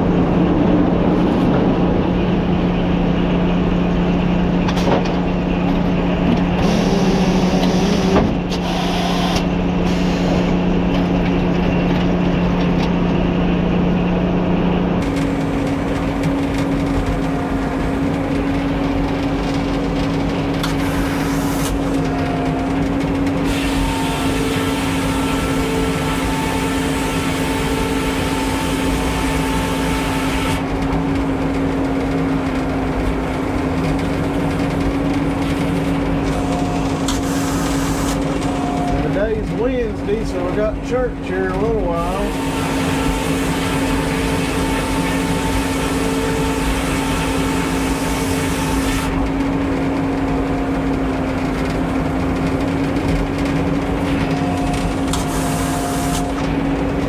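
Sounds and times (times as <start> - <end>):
sawmill machine drone: 0.0 - 57.0.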